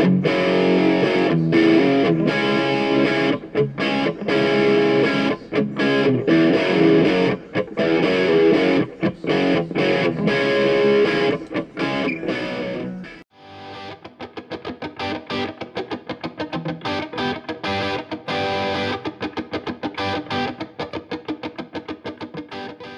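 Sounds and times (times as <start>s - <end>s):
distorted electric guitar music: 0.0s - 22.9s.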